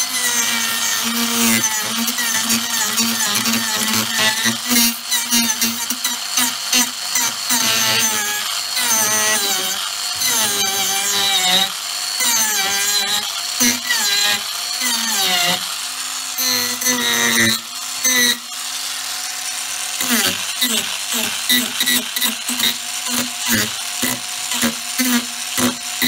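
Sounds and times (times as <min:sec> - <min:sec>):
angle grinder carving wood: 0:00.0 - 0:26.0.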